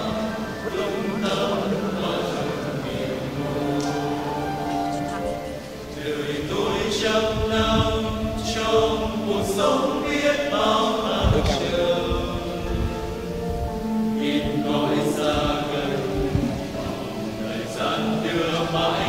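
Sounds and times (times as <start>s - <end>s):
choir singing a chant: 0.0s - 19.0s.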